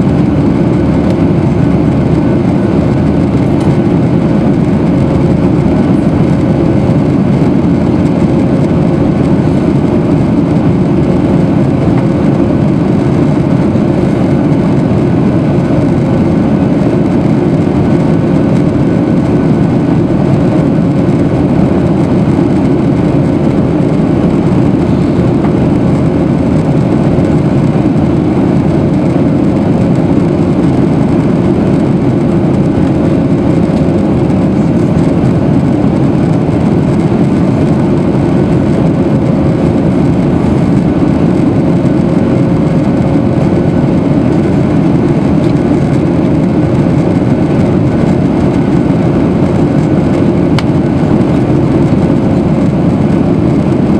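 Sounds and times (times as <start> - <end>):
jet engines rushing in cabin: 0.0 - 53.9.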